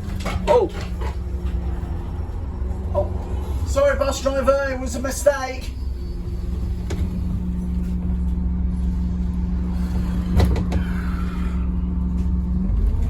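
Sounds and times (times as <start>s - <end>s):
bus diesel engine humming: 0.0s - 13.0s.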